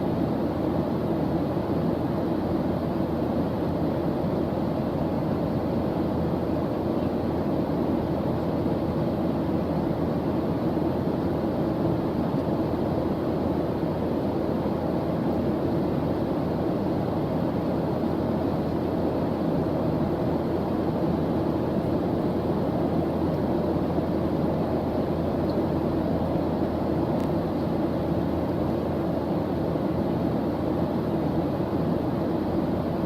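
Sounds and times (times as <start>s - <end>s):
deep rumbling white noise: 0.0s - 33.0s.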